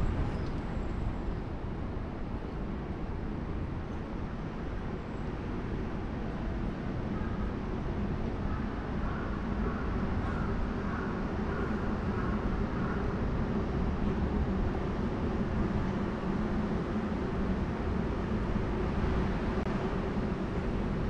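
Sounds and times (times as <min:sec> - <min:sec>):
street traffic rumble: 0:00.0 - 0:21.0
vehicle engine hum: 0:00.0 - 0:21.0.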